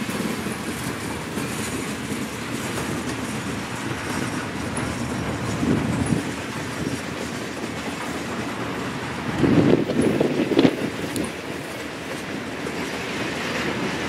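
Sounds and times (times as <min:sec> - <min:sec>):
train rolling along track: 0:00.0 - 0:14.0.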